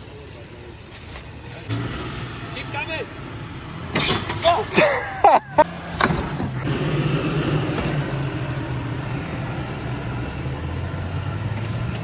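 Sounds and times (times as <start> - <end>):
vehicle engine at low revs: 0.0 - 12.0.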